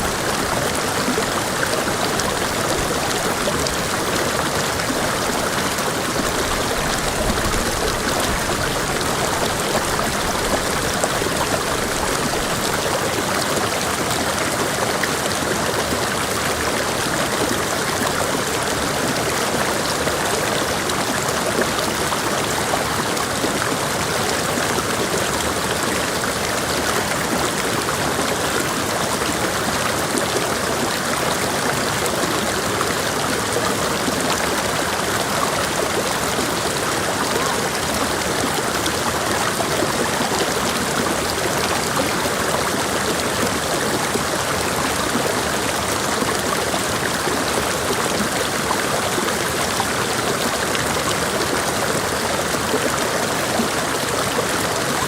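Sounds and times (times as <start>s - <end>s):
creek water flowing over rocks: 0.0s - 55.0s.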